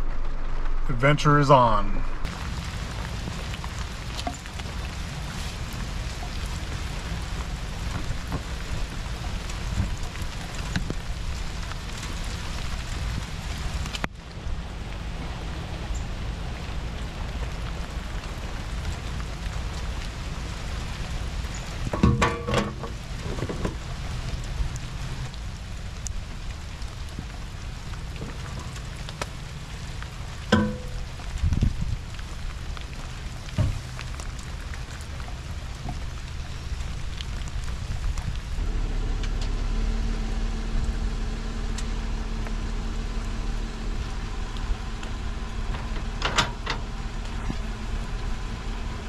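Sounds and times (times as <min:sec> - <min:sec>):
low rumble: 0:00.0 - 0:22.0, 0:22.8 - 0:49.0
steady rain falling: 0:01.5 - 0:49.0.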